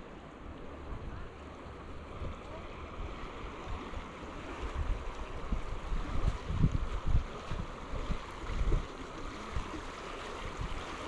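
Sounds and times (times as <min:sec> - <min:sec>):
ocean waves on beach: 0:00.0 - 0:11.0
wind rumble on microphone: 0:00.7 - 0:11.0.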